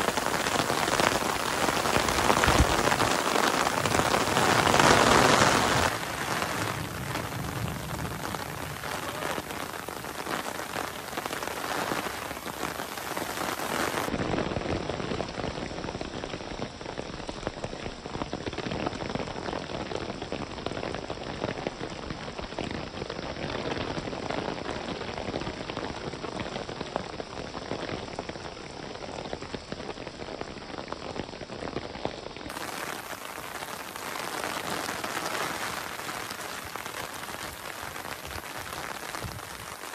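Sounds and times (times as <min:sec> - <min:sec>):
rain on stone paving: 0:00.0 - 0:39.9.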